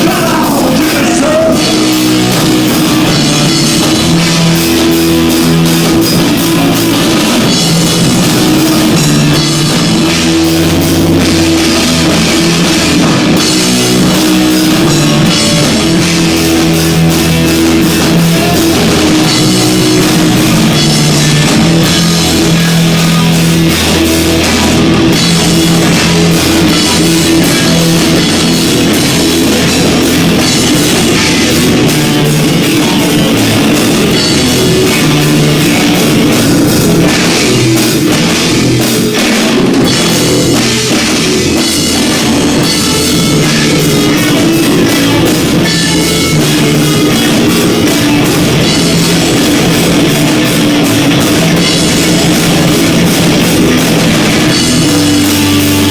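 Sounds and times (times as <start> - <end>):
distorted live rock band: 0.0 - 55.9.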